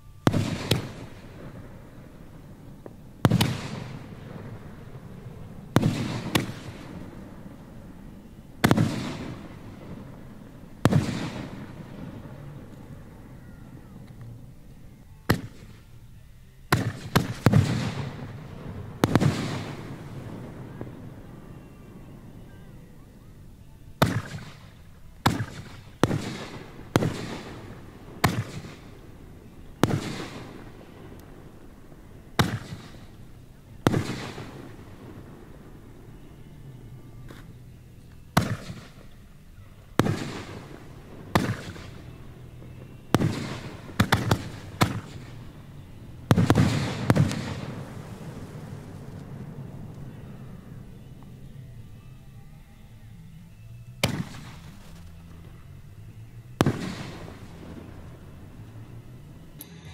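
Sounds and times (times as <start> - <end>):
fireworks bursting with echo: 0.0 - 59.9.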